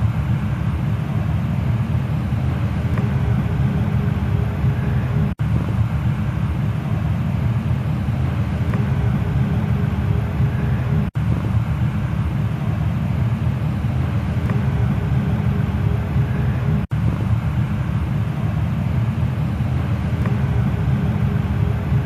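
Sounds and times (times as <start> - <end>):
faint hum: 0.0 - 22.0
gas furnace rumbling: 0.0 - 22.0.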